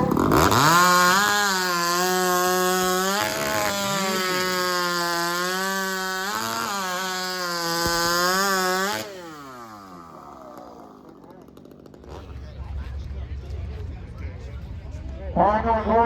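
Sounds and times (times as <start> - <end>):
chainsaw running at full throttle: 0.0 - 13.0.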